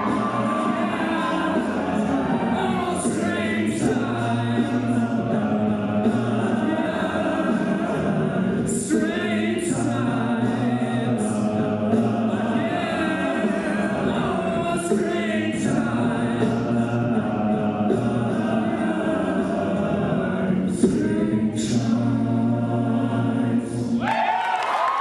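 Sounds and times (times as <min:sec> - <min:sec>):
a cappella group singing: 0:00.0 - 0:24.8.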